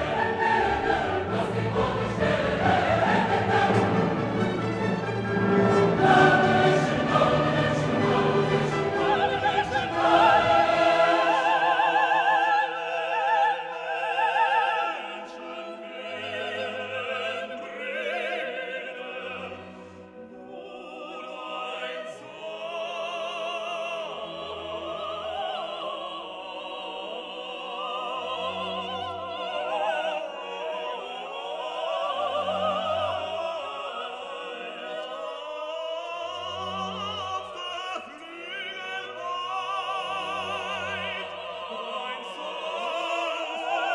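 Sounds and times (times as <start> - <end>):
operatic singing with orchestra: 0.0 - 43.9.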